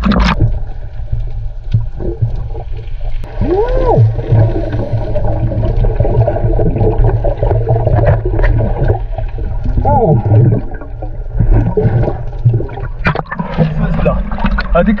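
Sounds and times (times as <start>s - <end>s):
underwater rumble: 0.0s - 15.0s.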